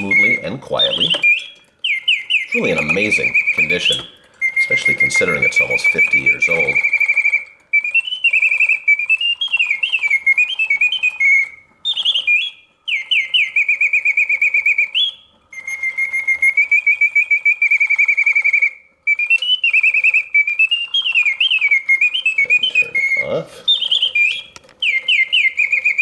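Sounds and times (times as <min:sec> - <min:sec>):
clockwork ticking: 0:00.0 - 0:26.0
mechanical bird whistle trilling: 0:00.0 - 0:26.0.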